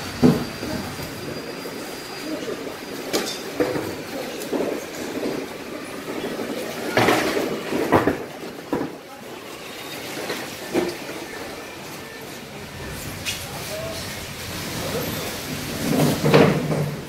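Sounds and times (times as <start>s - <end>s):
faint voices: 0.0s - 15.4s.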